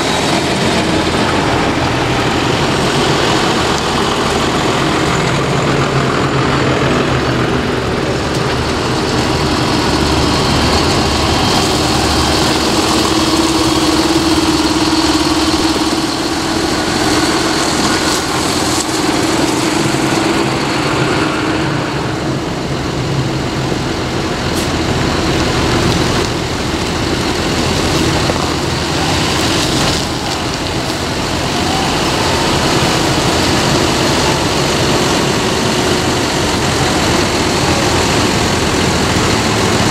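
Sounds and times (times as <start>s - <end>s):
tractors driving past: 0.0s - 39.9s.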